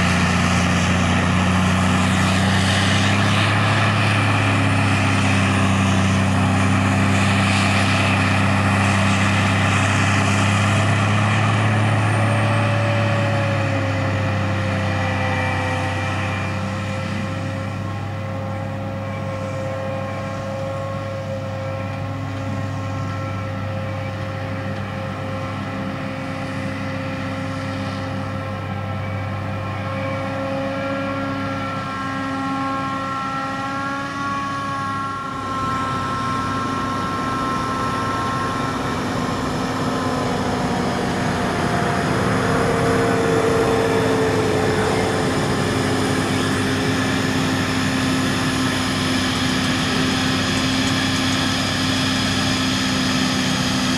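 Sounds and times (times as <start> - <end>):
forage harvester engine and chopper: 0.0 - 53.9
tractor pulling a trailer: 0.0 - 53.9.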